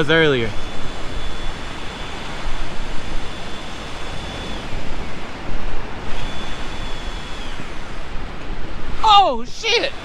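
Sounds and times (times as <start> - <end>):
high-pitched whine: 0.0 - 10.0
wind: 0.0 - 10.0.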